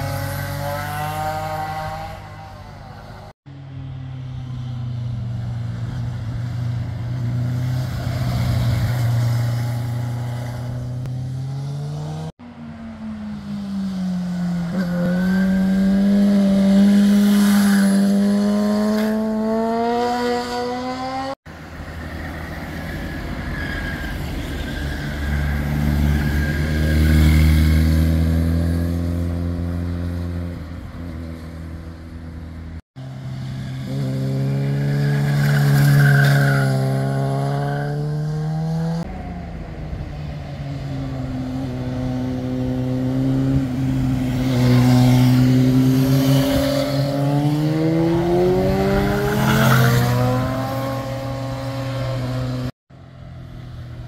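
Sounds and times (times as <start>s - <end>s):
motorcycles accelerating: 0.0s - 3.4s, 4.4s - 23.0s, 24.3s - 31.6s, 32.6s - 52.8s.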